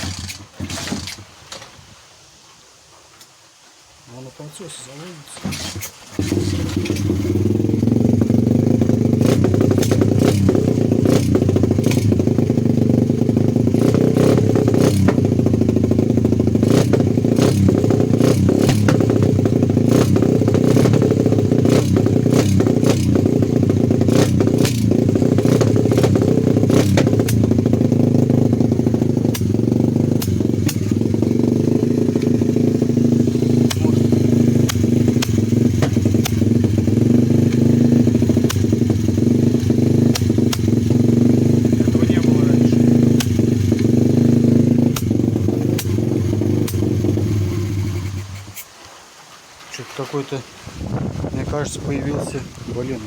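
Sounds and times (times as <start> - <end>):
motorcycle engine starting and running: 0.0 - 1.8, 5.3 - 48.7, 51.4 - 53.0
exhaust pops and clatter: 0.0 - 2.0, 5.3 - 48.8.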